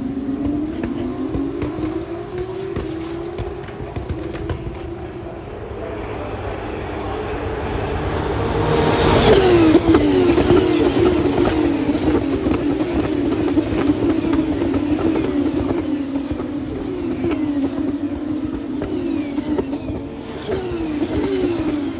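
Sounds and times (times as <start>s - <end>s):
racing car engines passing: 0.0s - 21.9s.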